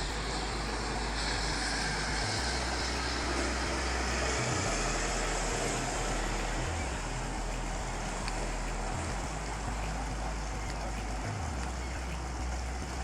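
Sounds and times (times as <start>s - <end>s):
low rumble: 0.0s - 13.0s
water rushing: 0.0s - 13.0s.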